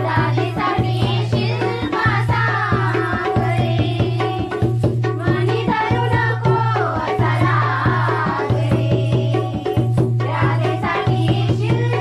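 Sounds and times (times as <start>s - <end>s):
folk singing: 0.0s - 12.0s
hand drum beating fast rhythm: 0.0s - 12.0s.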